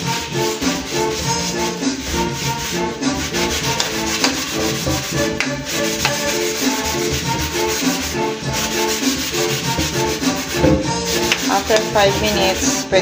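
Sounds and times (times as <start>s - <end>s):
background music: 0.0s - 13.0s
metal spatula scraping a wok: 0.0s - 13.0s.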